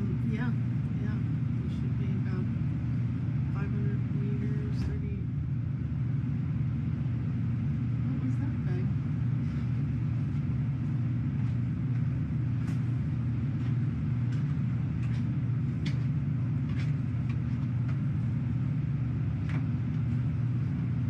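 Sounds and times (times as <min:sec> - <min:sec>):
low machinery hum: 0:00.0 - 0:21.0.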